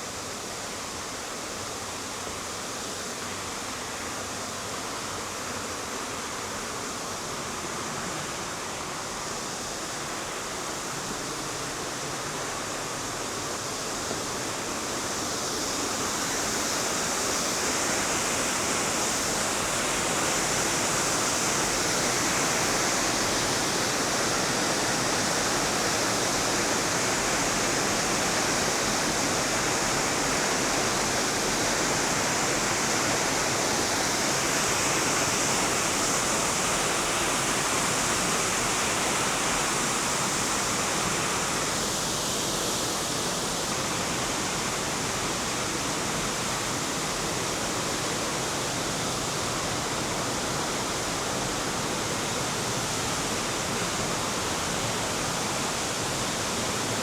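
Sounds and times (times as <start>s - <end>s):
river water rushing over rocks: 5.8s - 57.0s.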